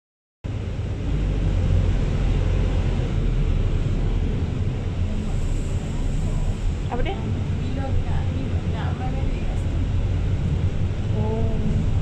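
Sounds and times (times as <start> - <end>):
bus engine and road rumble: 0.4 - 12.0.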